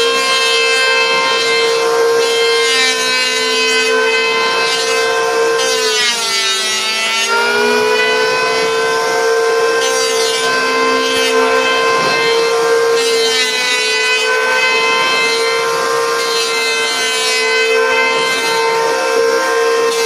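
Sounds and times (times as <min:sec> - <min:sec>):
woodworking machine whining: 0:00.0 - 0:20.0.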